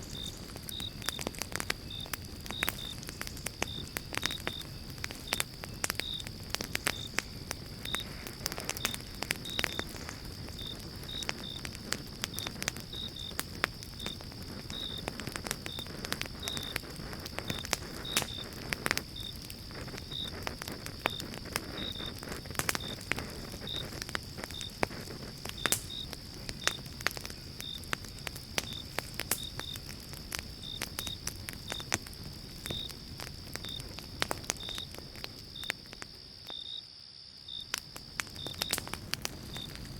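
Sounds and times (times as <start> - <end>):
wood fire crackling and popping: 0.0 - 36.6, 37.4 - 39.9
cricket chirping: 0.0 - 39.9.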